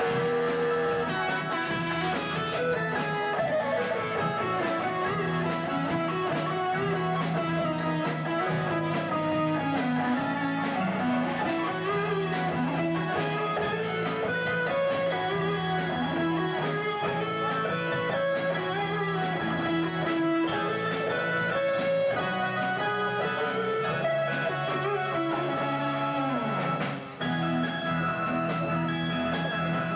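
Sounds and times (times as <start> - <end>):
strummed guitar music: 0.0 - 29.9.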